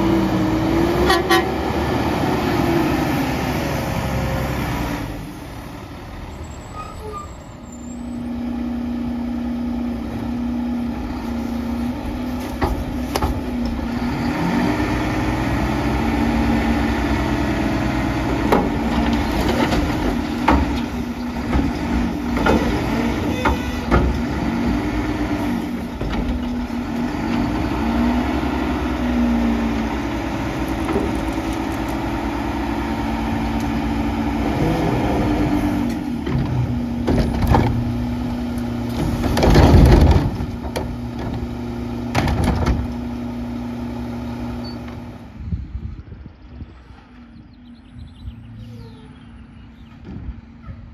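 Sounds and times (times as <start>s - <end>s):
garbage truck engine revving: 0.0s - 6.5s, 8.0s - 45.4s.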